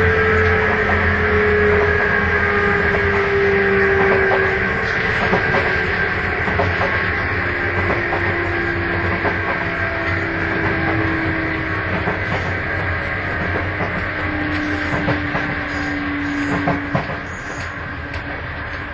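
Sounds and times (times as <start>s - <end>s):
electric train motor whine: 0.0s - 18.9s.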